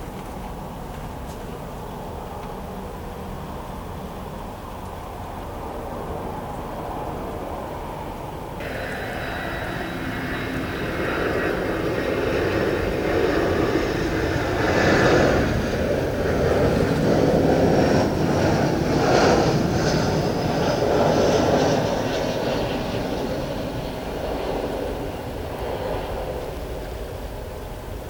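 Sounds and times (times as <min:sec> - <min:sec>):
jet airliner landing: 0:00.0 - 0:28.0.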